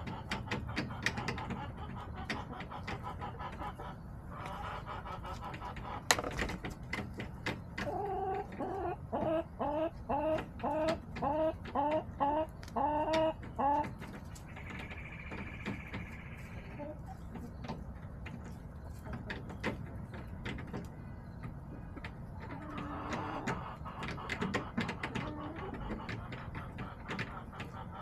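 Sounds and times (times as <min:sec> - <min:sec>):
hen clucking: 0:00.0 - 0:28.0.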